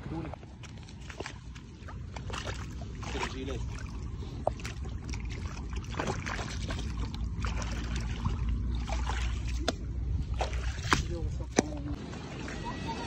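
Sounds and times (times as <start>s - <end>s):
steady low rumble: 0.0s - 12.4s
feet wading through water: 0.0s - 13.0s.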